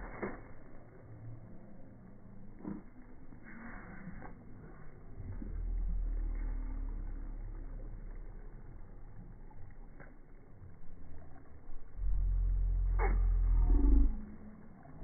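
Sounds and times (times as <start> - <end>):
deep slowed-down rumble: 0.0 - 15.0.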